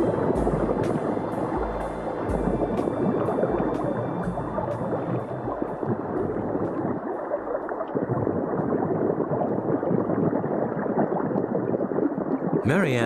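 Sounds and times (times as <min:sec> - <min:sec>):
water gurgling and sloshing: 0:00.0 - 0:12.6.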